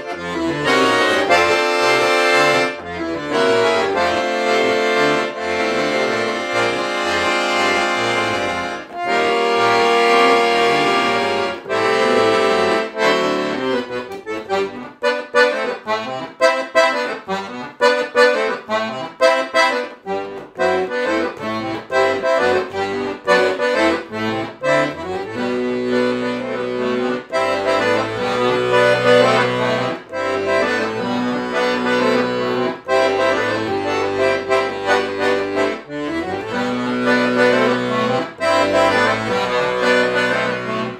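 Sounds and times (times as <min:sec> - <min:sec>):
piano accordion playing: 0:00.0 - 0:40.9.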